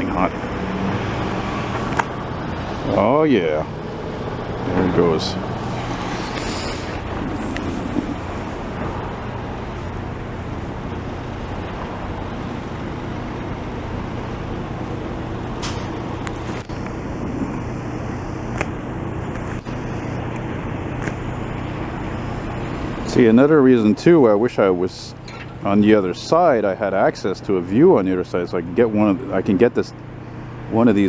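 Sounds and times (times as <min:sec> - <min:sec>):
heavy engines and road traffic: 0:00.0 - 0:31.0.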